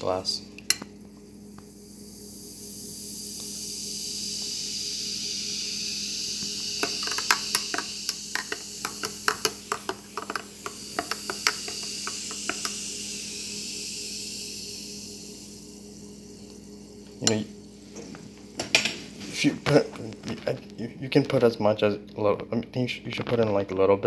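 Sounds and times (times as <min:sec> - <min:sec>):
soda fizzing: 0:01.2 - 0:20.5.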